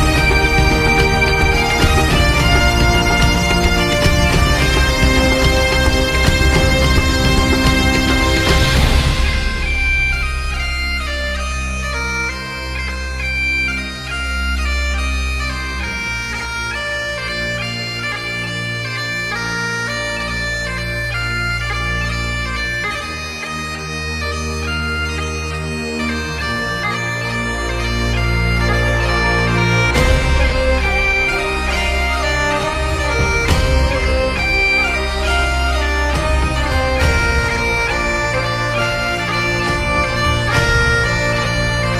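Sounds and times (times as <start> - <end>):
bagpipe music: 0.0 - 41.9.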